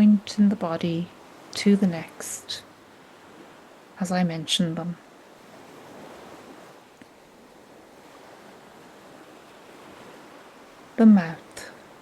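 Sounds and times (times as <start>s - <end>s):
ocean waves washing: 0.0s - 12.0s.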